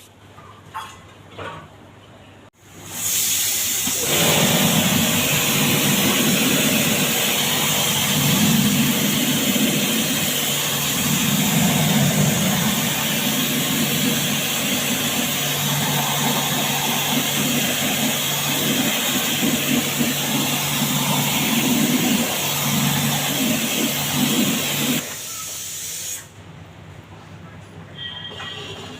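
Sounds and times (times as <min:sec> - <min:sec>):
water jet hissing: 0:02.6 - 0:26.4
pressure-washer motor humming: 0:02.8 - 0:26.0.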